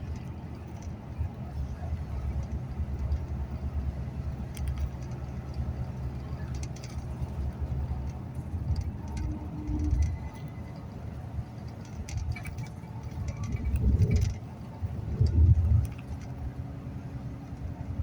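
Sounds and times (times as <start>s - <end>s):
bus engine and road rumble: 0.0s - 18.0s
light rattles and clicks: 0.0s - 18.0s.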